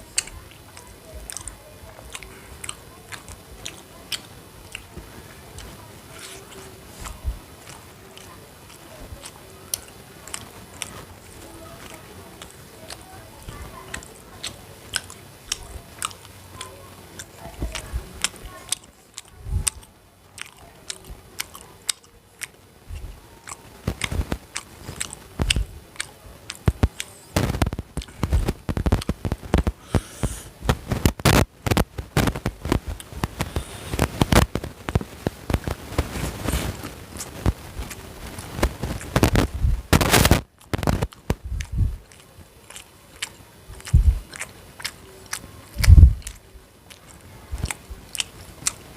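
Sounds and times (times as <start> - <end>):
person chewing crunchy food: 0.1 - 48.8.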